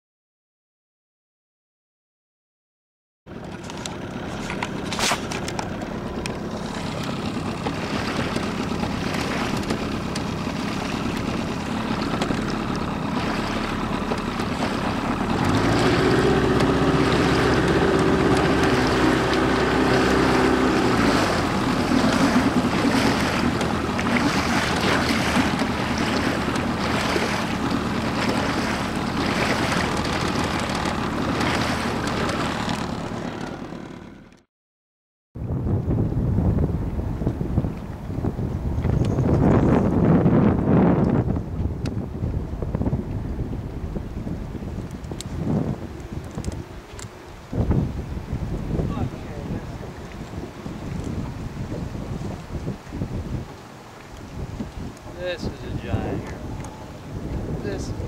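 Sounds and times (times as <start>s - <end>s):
water rushing along hull: 3.3s - 34.4s, 35.4s - 58.0s
outboard motor drone: 3.3s - 34.5s, 35.4s - 58.0s
wind on microphone: 3.6s - 33.9s, 35.4s - 58.0s.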